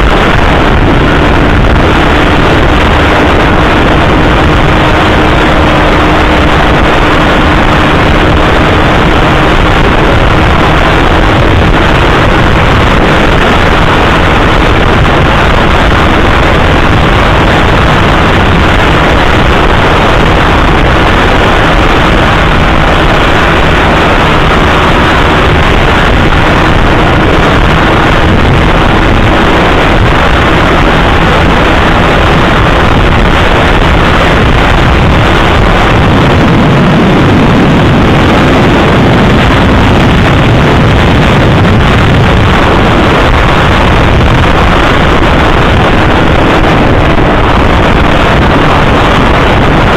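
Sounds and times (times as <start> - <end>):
motorcycle engine at high speed: 0.0 - 49.9
wind rushing over microphone: 0.0 - 49.9.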